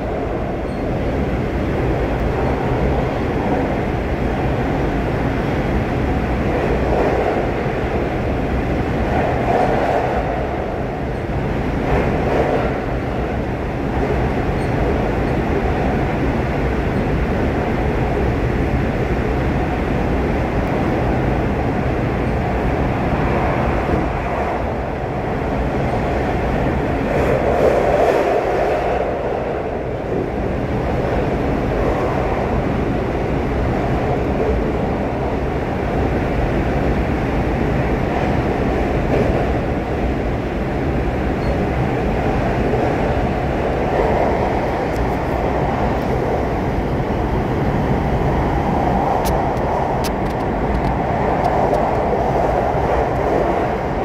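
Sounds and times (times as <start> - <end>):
train wheels rumbling in tunnel: 0.0 - 54.0.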